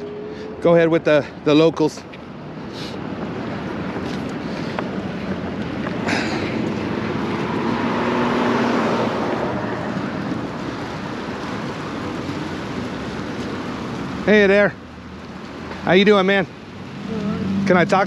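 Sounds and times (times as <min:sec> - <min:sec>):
street traffic noise: 0:00.0 - 0:18.0
vehicle passing: 0:00.0 - 0:18.0.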